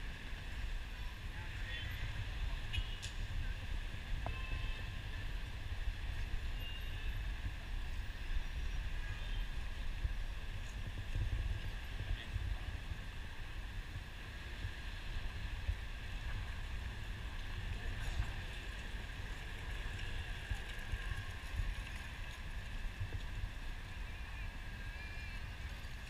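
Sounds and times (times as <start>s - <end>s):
wind buffeting microphone: 1.4s - 26.0s.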